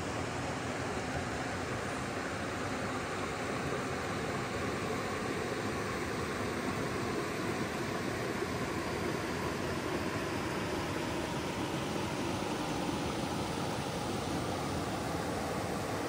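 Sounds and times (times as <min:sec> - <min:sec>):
river water flowing over rocks: 0:00.0 - 0:16.0.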